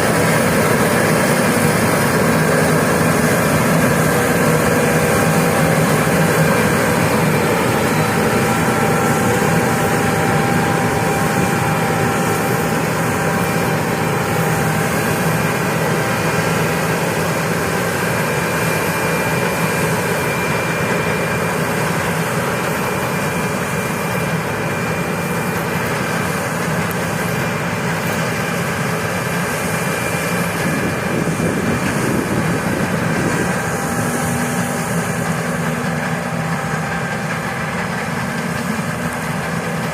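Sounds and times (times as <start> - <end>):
harvester engine running: 0.0 - 39.9
held whining tones: 0.0 - 39.9.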